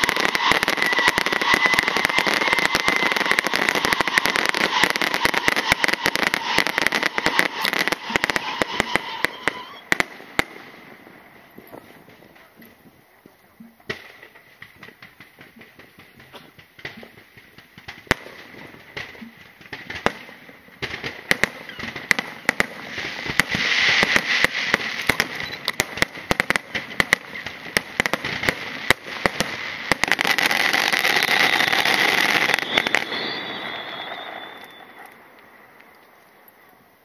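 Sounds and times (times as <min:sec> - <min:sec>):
fireworks bangs: 0:00.0 - 0:35.9
fireworks crackling: 0:00.0 - 0:37.0.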